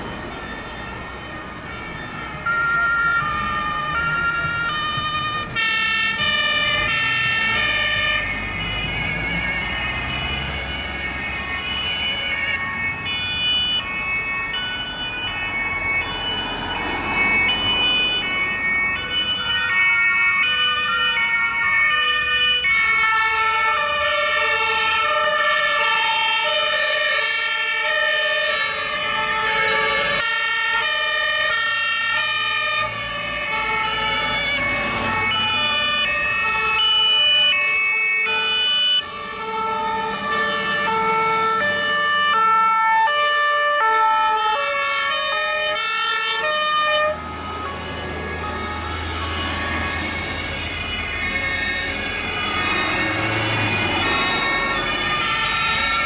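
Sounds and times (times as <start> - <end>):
two-tone emergency sirens: 0.0 - 56.0.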